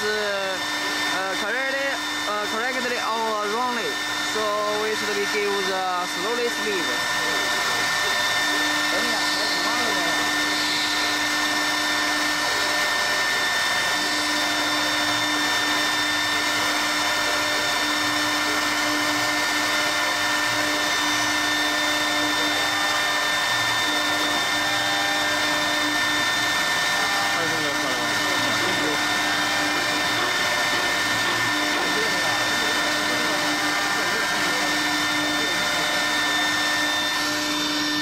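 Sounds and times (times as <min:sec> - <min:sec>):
router spindle whine: 0:00.0 - 0:38.0.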